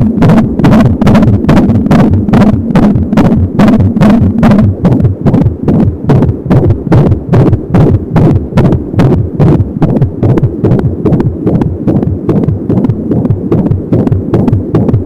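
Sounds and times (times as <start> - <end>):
fetal heartbeat doppler pulsing: 0.0 - 15.0.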